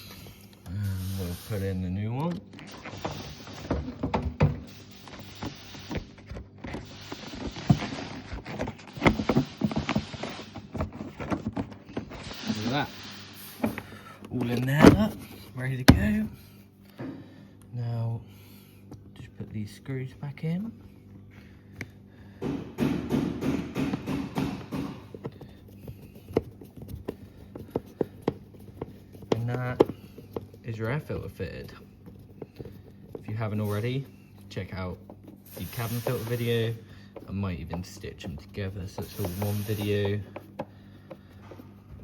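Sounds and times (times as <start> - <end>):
air filter rustling: 0.0 - 17.6, 21.0 - 42.0.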